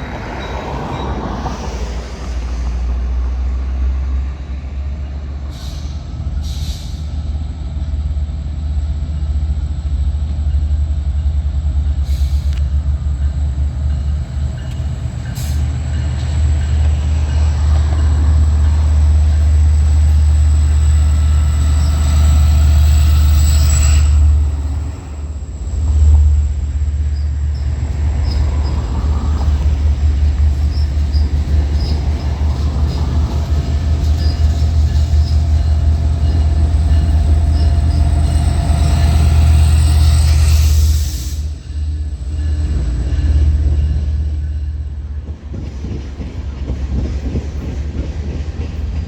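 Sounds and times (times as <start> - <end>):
train rumbling past: 0.0 - 49.0.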